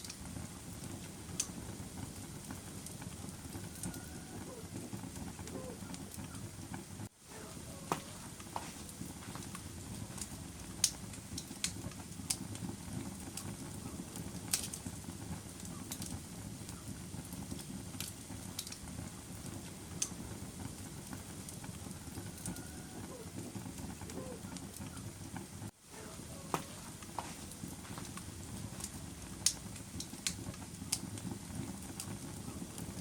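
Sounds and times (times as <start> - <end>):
fire burning in a fireplace: 0.0 - 33.0
fire crackling and popping: 0.0 - 33.0.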